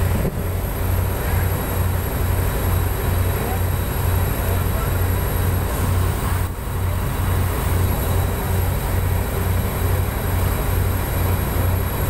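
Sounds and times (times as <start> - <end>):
boat engine pulsing hum: 0.0 - 12.0
water rushing along hull: 0.0 - 12.0
wind: 0.0 - 12.0.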